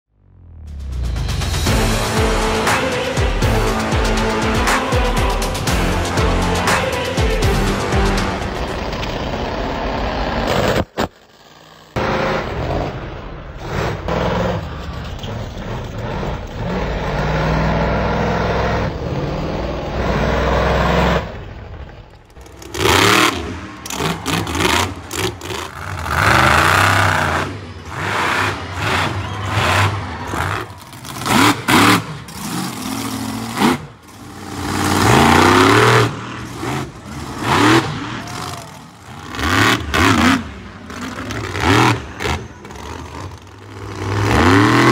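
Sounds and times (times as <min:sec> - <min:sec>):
truck engines revving hard: 0:00.5 - 0:44.9.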